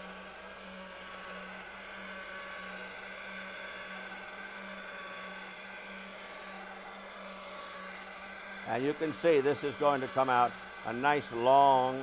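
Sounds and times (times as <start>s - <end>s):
pasta machine motor whirring: 0.0s - 12.0s.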